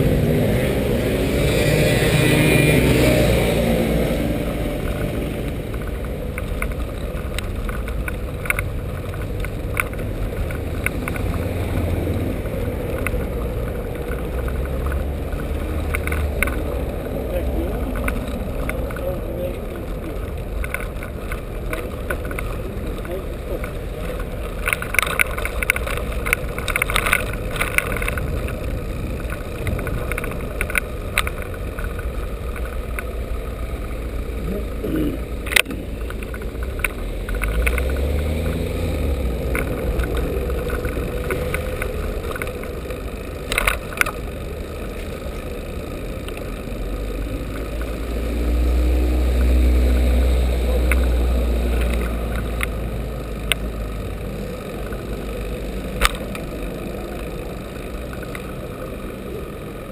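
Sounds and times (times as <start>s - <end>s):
bicycle tyres and wind rumble: 0.0s - 59.9s
motor vehicle engines: 0.0s - 59.9s
clicks on cobblestones: 2.0s - 59.9s.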